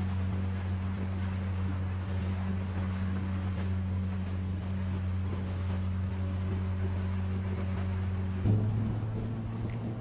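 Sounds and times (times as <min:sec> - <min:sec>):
outboard motor running: 0:00.0 - 0:10.0
water rushing along hull: 0:00.0 - 0:10.0
wind on microphone: 0:00.0 - 0:10.0.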